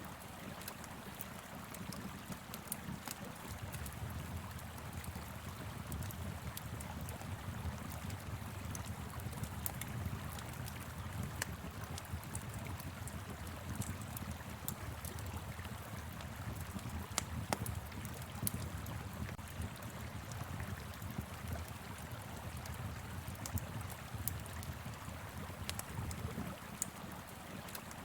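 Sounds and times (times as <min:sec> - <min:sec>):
wood fire crackling and popping: 0:00.2 - 0:28.0.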